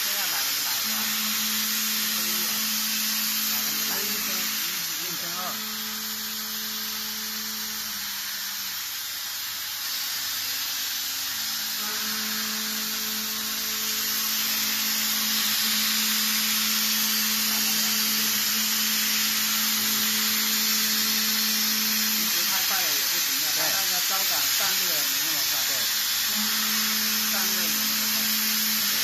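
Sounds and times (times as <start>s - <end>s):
coolant spray hissing: 0.0s - 29.0s
milling spindle humming: 0.0s - 29.0s.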